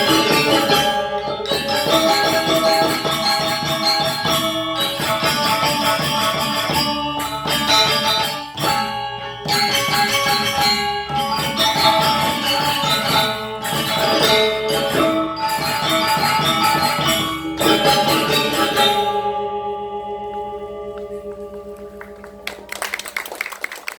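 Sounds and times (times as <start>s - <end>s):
gamelan ensemble playing: 0.0s - 23.3s.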